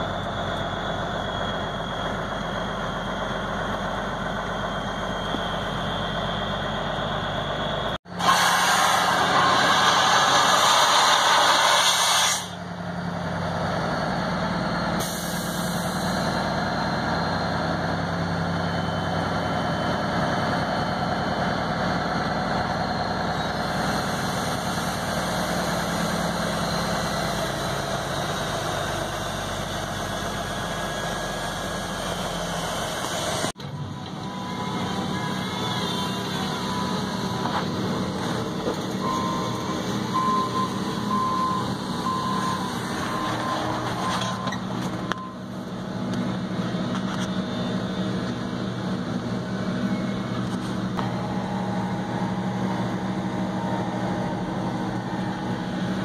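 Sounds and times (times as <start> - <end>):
truck engine idling: 0.0 - 8.2, 12.5 - 56.0
reversing beeper: 0.0 - 10.5, 12.4 - 45.6, 49.8 - 56.0.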